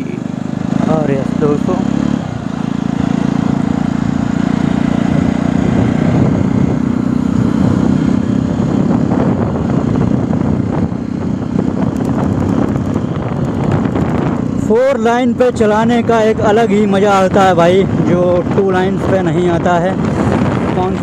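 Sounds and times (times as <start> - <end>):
motorcycle engine running: 0.0 - 21.0
wind rushing: 1.8 - 14.8, 16.0 - 21.0.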